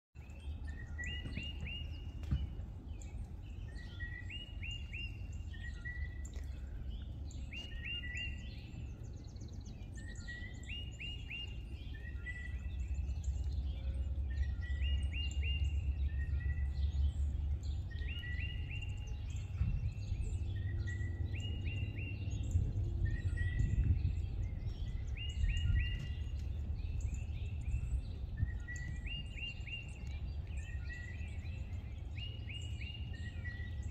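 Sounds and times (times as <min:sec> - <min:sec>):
songbird singing: 0:00.2 - 0:33.9
steady low rumble: 0:00.2 - 0:33.9.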